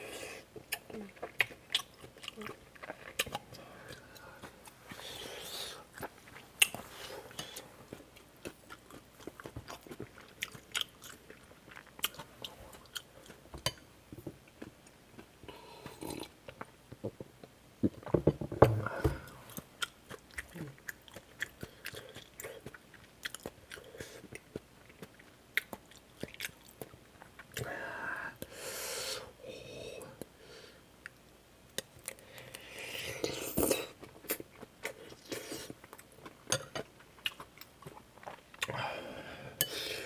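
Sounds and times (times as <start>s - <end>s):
person chewing: 0.0s - 13.9s, 14.5s - 16.8s, 17.4s - 27.7s, 31.8s - 38.8s.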